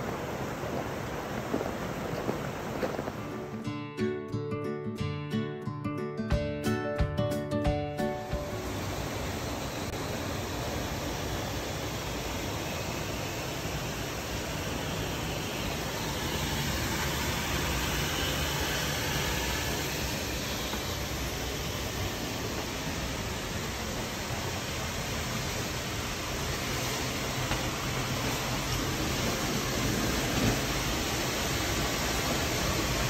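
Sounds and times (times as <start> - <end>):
water rushing at waterfall: 0.0 - 3.7, 8.5 - 33.0.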